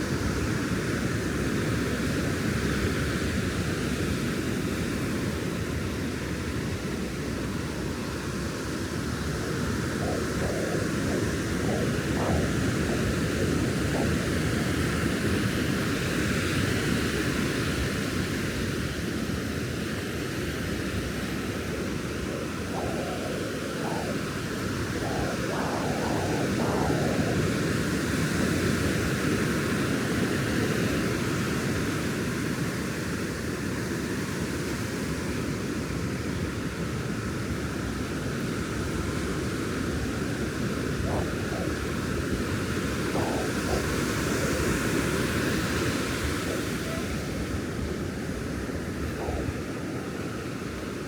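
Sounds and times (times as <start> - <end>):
waves breaking on a beach: 5.4 - 34.7, 35.4 - 51.0.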